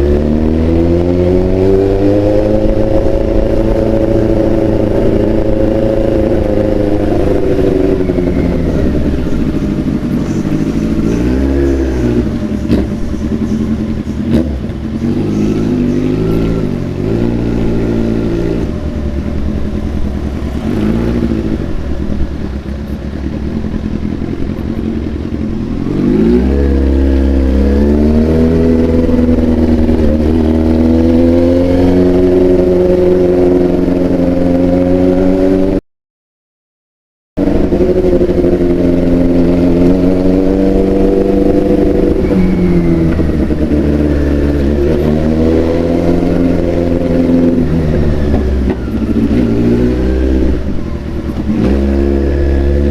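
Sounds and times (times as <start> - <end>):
motorcycle revving: 0.0 - 35.8, 37.4 - 52.9.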